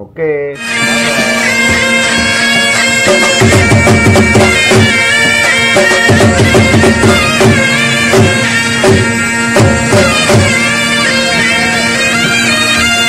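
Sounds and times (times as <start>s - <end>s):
wind instrument melody: 0.5s - 13.0s
drum beats: 0.6s - 13.0s
steady drone: 0.6s - 13.0s.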